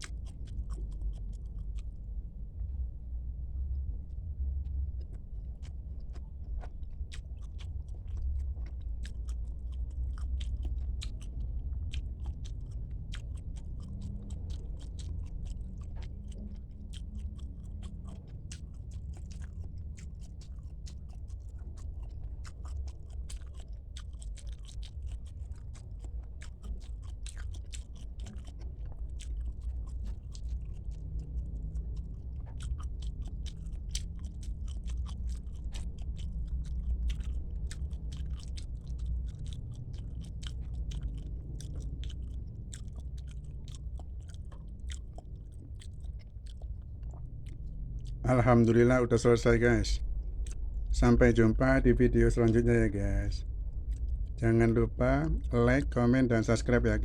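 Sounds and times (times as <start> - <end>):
person chewing and biting food: 0.0 - 2.2, 4.0 - 57.0
steady low hum: 0.0 - 57.0.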